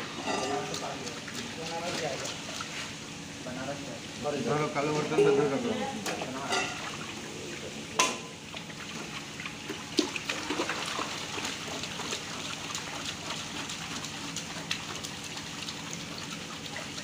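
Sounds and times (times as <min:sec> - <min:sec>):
small water splashes: 0:00.0 - 0:03.0, 0:06.0 - 0:17.0.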